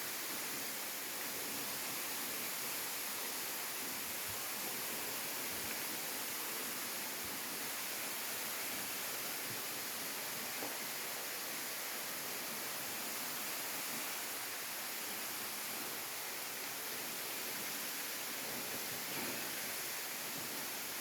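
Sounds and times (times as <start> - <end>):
waterfall water rushing: 0.0 - 21.0.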